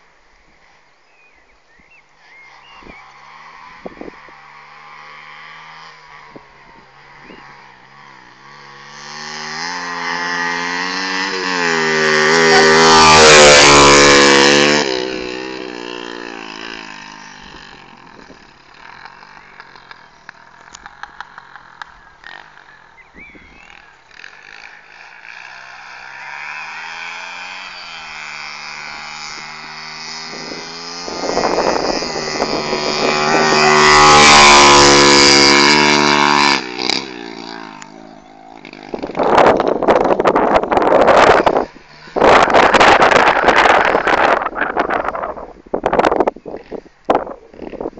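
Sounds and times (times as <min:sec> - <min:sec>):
motorbike engine revving: 0:02.2 - 0:47.9.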